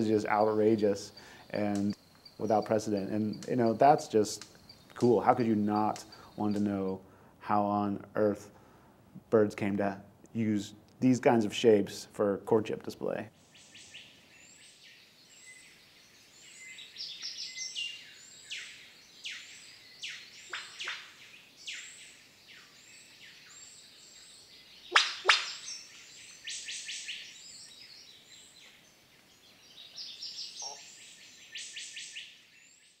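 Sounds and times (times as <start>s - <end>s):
forest birds chirping: 0.0s - 8.9s, 10.2s - 33.0s.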